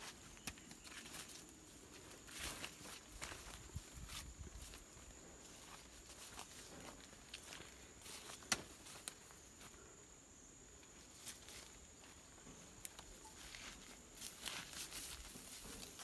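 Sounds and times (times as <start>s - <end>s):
footsteps through grass: 0.0s - 9.9s, 10.9s - 16.0s.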